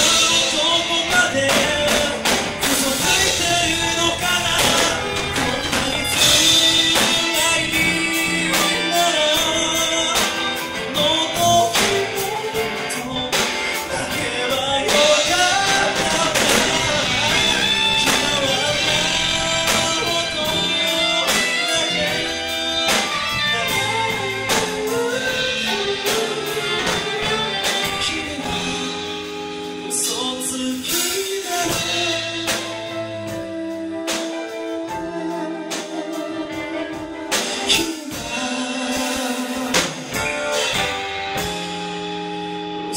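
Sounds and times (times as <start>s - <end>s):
man singing: 0.0s - 40.8s
live band playing: 0.0s - 42.9s
saxophone: 0.0s - 42.9s.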